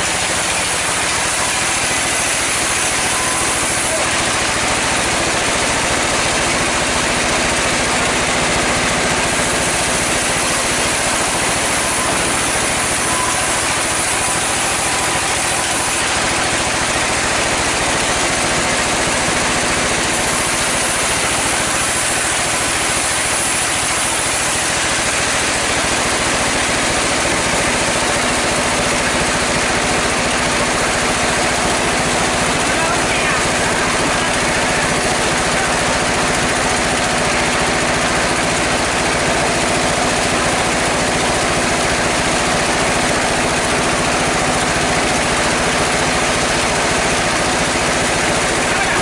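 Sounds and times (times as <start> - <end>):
sawmill saw running: 0.0 - 49.0.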